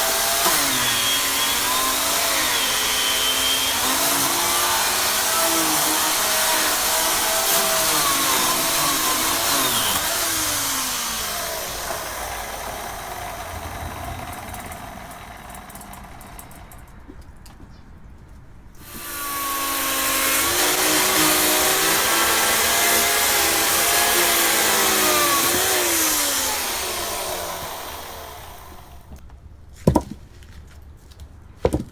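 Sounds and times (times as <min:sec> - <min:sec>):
chainsaw cutting logs: 0:00.0 - 0:16.8, 0:18.8 - 0:29.2.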